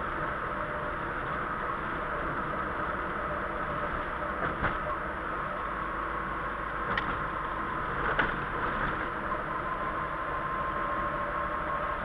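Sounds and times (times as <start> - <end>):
engine and tyres rumbling: 0.0 - 12.0
faint steady whine: 0.0 - 12.0.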